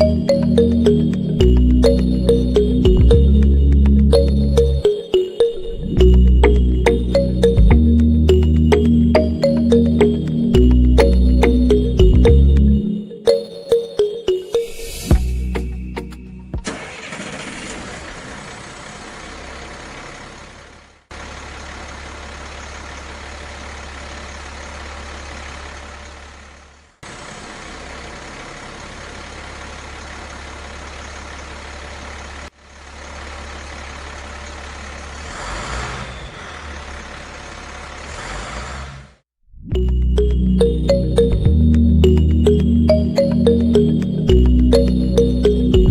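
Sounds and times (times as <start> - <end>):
heavy vehicle engine hum: 0.0 - 13.0, 14.8 - 45.9.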